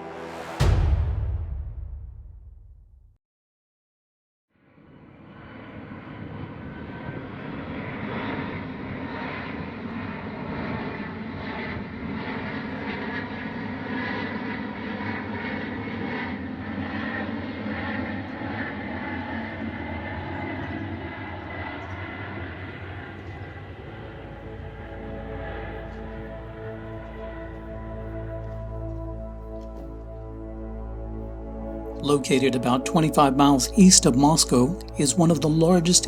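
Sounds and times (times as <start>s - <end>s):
aircraft engine droning: 0.0s - 0.8s, 4.7s - 36.0s.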